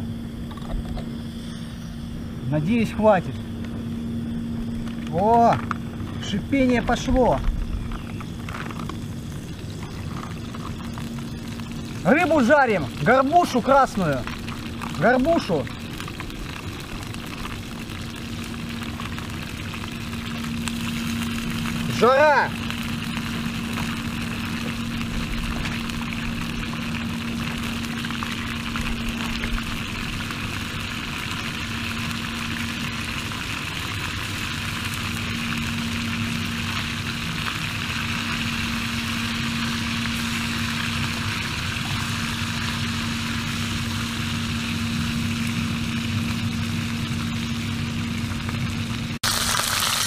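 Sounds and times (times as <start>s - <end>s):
camping stove burning: 0.0s - 50.0s
food sizzling in oil: 3.5s - 50.0s.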